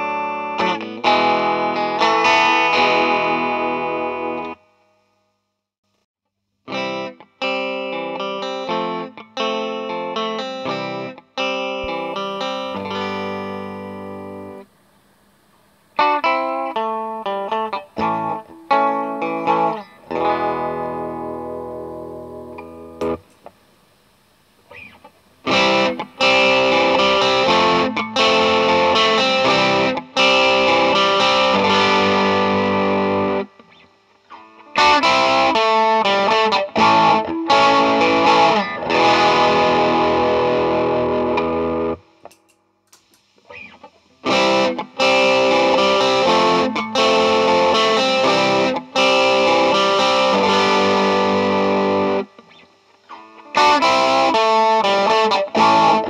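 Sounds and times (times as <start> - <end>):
overdriven electric guitar: 0.0 - 4.6, 6.7 - 14.7, 16.0 - 23.6, 24.6 - 56.0.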